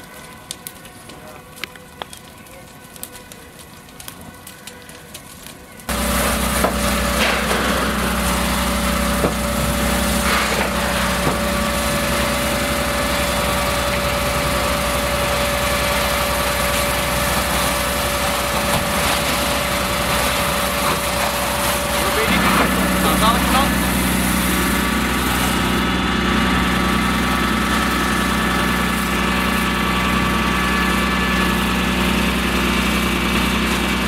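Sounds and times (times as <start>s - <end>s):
fire crackling: 0.0s - 34.0s
fire engine pump running: 0.0s - 34.0s.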